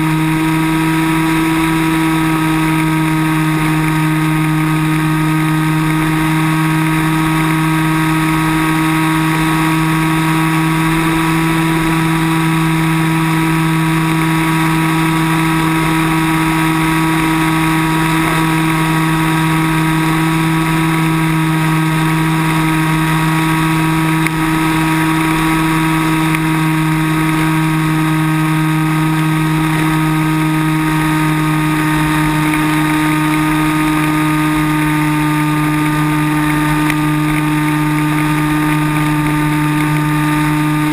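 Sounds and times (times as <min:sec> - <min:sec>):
electric motor and propeller drone: 0:00.0 - 0:40.9.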